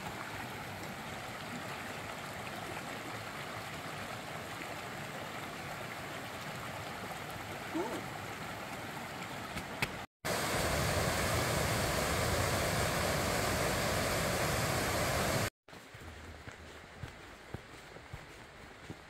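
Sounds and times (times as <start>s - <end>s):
creek rushing over rocks: 0.0s - 16.1s.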